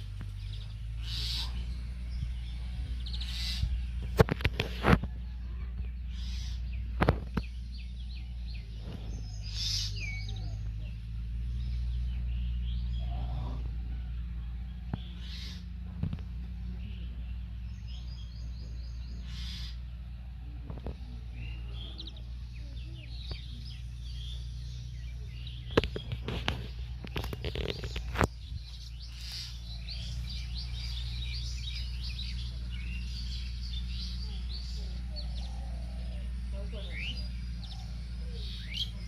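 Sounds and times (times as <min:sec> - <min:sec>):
small birds chirping: 0:00.0 - 0:39.0
steady low hum: 0:00.0 - 0:39.0.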